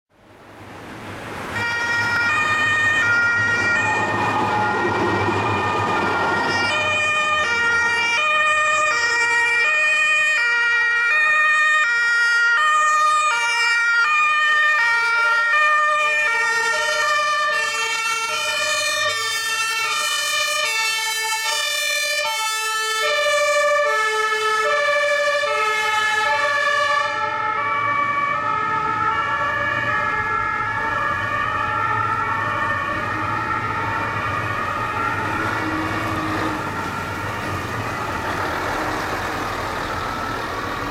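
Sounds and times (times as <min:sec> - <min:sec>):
truck engines rumbling: 0:00.1 - 0:40.9
two-tone fire engine sirens: 0:01.0 - 0:40.9.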